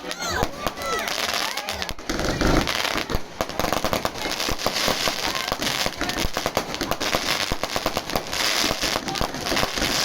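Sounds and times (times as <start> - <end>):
crackling hiss: 0.0 - 10.0
fireworks cracks and pops: 0.0 - 10.0.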